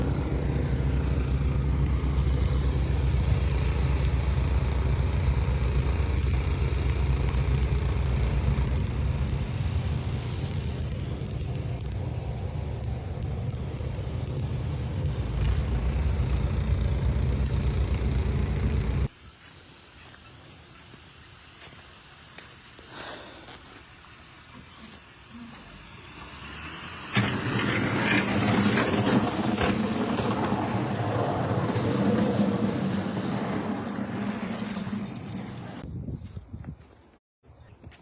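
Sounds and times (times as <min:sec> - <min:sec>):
car engine and road rumble: 0:00.0 - 0:19.2, 0:20.7 - 0:36.6.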